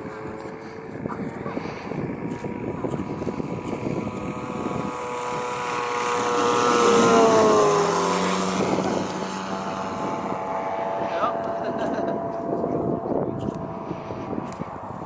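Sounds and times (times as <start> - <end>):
model plane engine flyby: 0.0 - 15.0.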